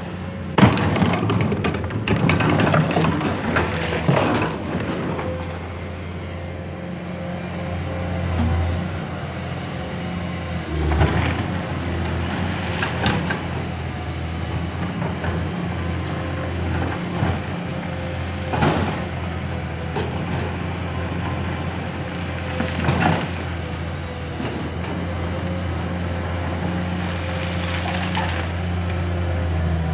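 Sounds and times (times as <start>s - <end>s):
excavator diesel engine droning: 0.0s - 29.9s.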